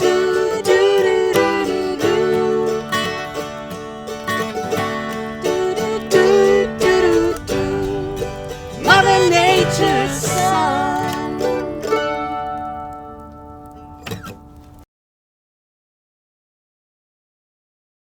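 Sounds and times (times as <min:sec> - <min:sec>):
plucked string music: 0:00.0 - 0:14.8.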